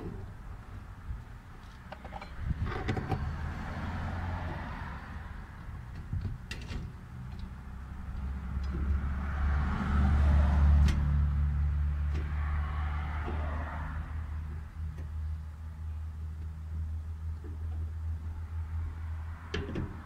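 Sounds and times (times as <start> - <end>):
low engine-like rumble: 0.0 - 20.0.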